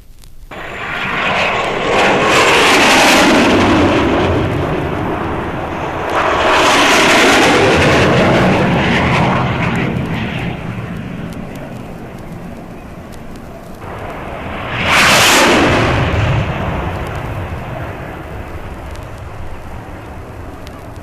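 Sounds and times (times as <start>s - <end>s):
jets flying low past: 0.5s - 21.0s.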